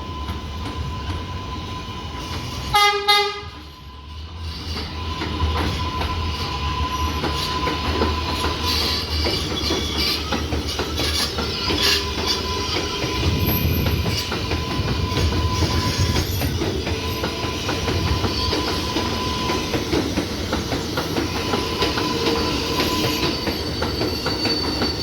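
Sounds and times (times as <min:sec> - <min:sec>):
train rumble: 0:00.0 - 0:25.0
train wheels clicking over rail joints: 0:00.1 - 0:25.0.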